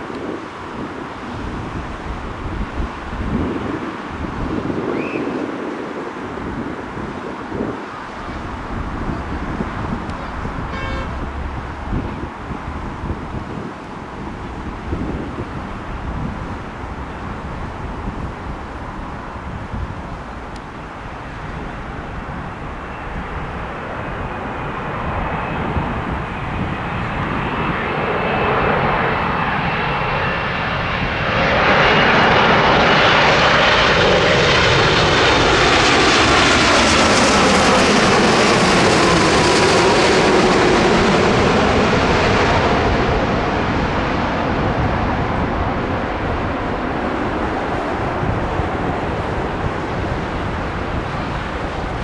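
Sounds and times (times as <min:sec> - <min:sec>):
airliner passing overhead: 0:00.0 - 0:52.0
jet engine whine falling in pitch: 0:00.0 - 0:52.0.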